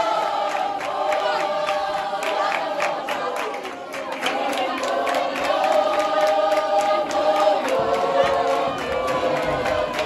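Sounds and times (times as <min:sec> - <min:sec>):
crowd singing in unison: 0:00.0 - 0:10.0.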